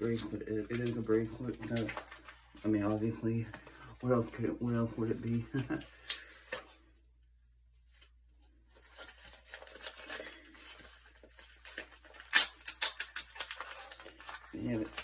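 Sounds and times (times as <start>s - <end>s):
wrapping crinkling and tearing: 0.0s - 6.9s, 8.0s - 15.0s.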